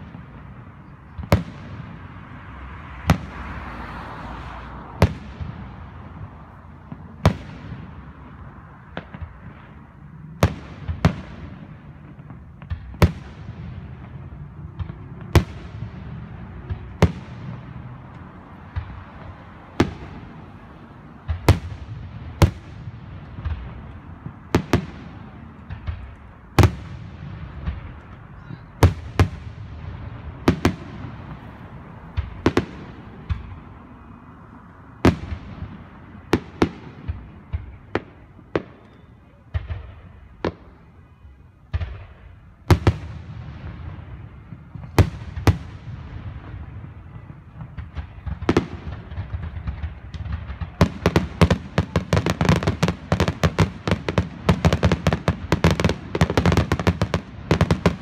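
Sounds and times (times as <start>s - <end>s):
fireworks bangs echoing: 0.0s - 58.0s.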